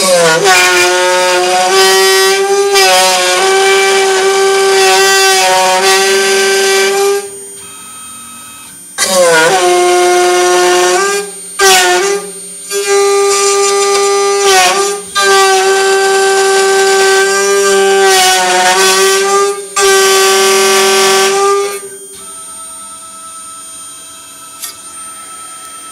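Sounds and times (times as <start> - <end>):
router cutting metal squealing: 0.0 - 8.1, 8.7 - 25.9.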